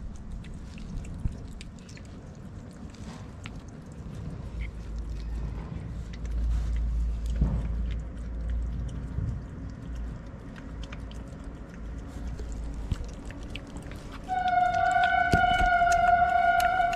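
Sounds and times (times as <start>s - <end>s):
kitten chewing and licking: 0.0s - 16.9s
steady low rumble: 0.0s - 16.9s.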